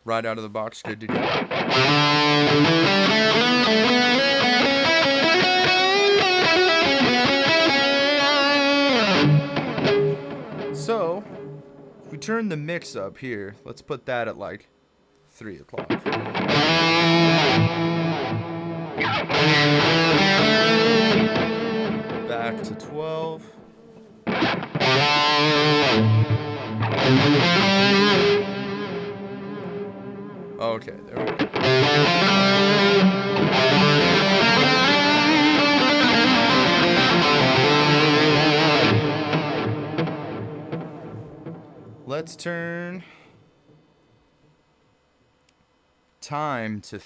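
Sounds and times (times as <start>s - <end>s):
overdriven electric guitar lead: 1.0s - 12.1s, 15.8s - 42.4s.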